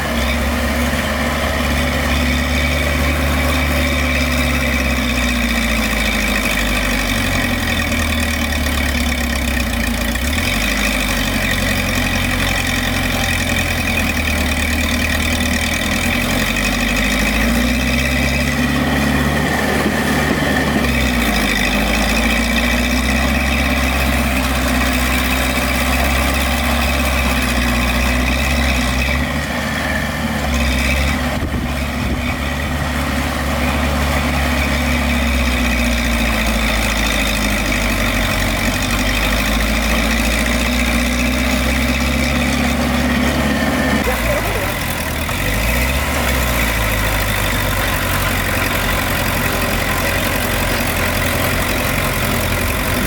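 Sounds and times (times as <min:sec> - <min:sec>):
heavy diesel engine idling: 0:00.0 - 0:53.0.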